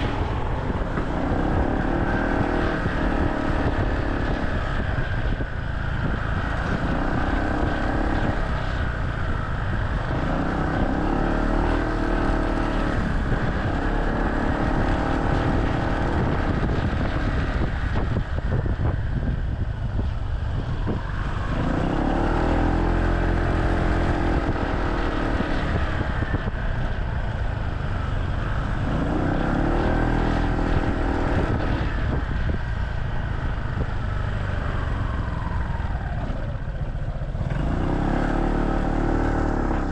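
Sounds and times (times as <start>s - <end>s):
motorcycle engine: 0.0s - 39.9s
road and wind noise: 0.0s - 39.9s.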